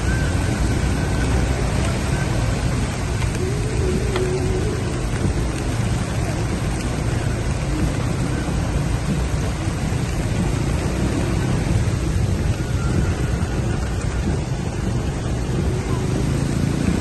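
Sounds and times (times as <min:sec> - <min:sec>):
heavy rain: 0:00.0 - 0:17.0
low rumble: 0:00.0 - 0:17.0.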